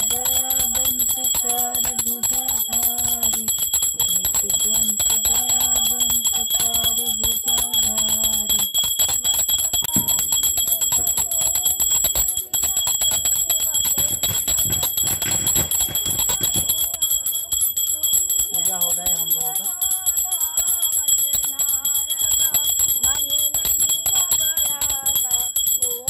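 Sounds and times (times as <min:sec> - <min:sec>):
small hand bell ringing rapidly: 0:00.0 - 0:26.0
woman singing devotional song: 0:00.0 - 0:26.0.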